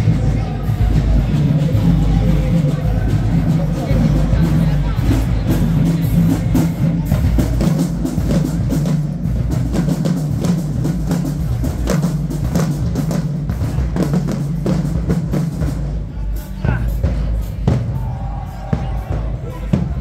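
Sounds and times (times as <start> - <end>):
drums beating march rhythm: 0.0 - 20.0
marching band playing: 0.0 - 20.0.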